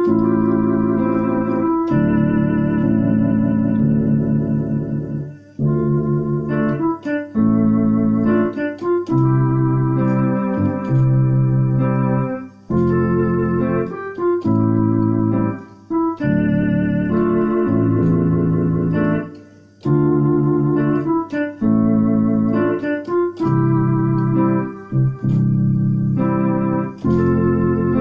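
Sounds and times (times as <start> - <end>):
electronic keyboard chords: 0.0 - 28.0.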